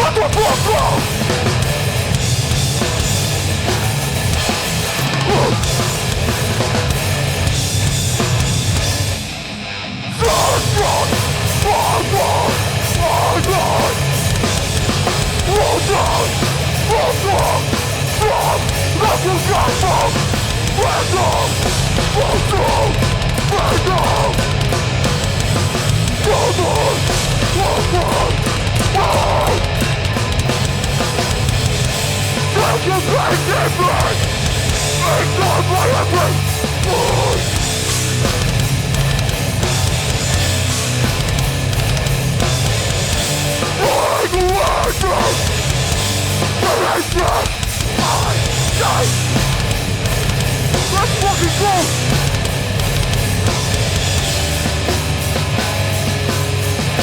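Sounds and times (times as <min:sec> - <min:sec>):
bass: 0:00.0 - 0:57.0
distorted guitars: 0:00.0 - 0:57.0
drums: 0:00.0 - 0:57.0.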